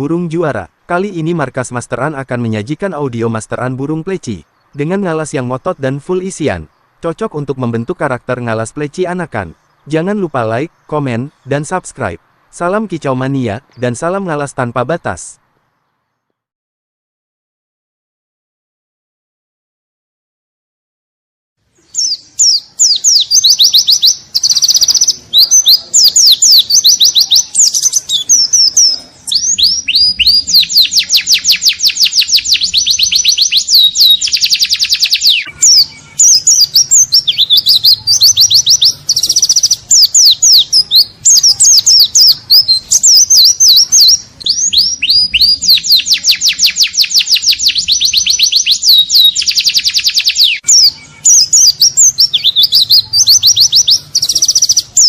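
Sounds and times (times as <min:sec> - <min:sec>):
bird singing rapid high chirps: 0:00.0 - 0:16.4, 0:21.8 - 0:55.0.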